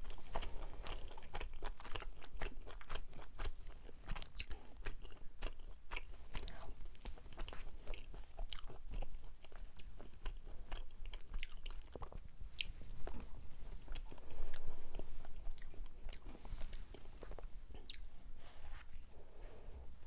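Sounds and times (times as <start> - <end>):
chewing rice cake: 0.0 - 19.0.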